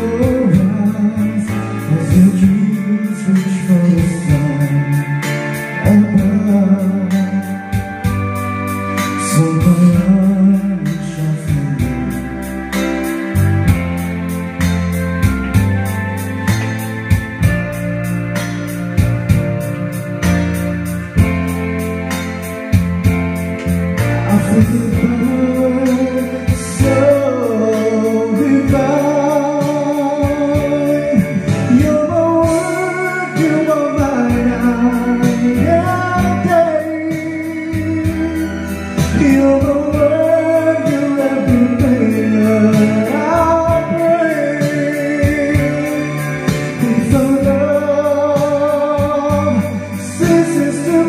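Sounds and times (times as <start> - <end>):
keyboard-led karaoke music: 0.0 - 51.0
person singing: 0.0 - 51.0.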